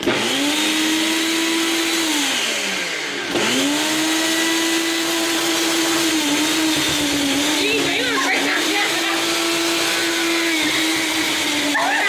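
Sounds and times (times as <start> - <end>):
blender motor pulsing: 0.0 - 12.0.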